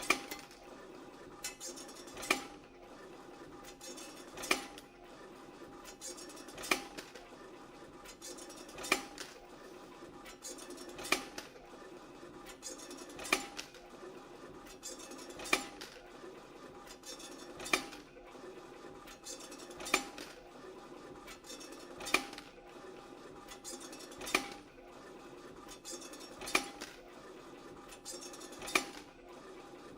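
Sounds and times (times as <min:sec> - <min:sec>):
machine running with light clatter: 0:00.0 - 0:29.9.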